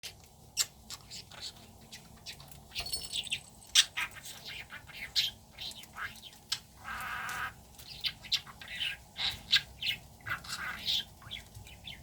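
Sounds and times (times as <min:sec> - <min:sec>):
budgerigar chirping and chattering: 0:00.6 - 0:12.0.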